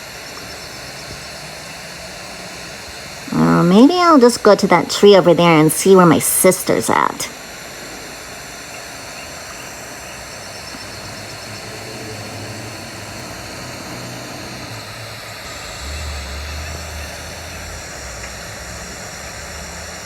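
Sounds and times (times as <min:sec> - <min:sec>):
distant engine drone: 0:00.0 - 0:20.0
steady outdoor hiss: 0:00.0 - 0:20.0.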